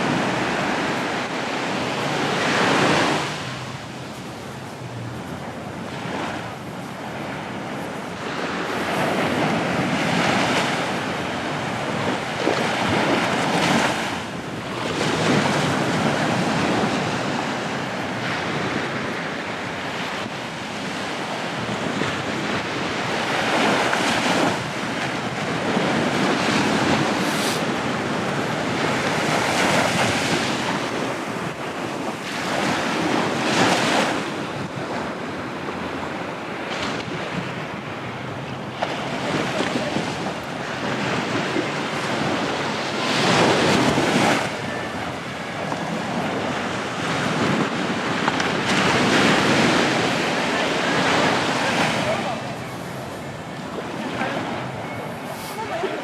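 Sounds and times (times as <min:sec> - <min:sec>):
sea waves breaking on shore: 0:00.0 - 0:56.0
wind buffeting microphone: 0:00.0 - 0:56.0.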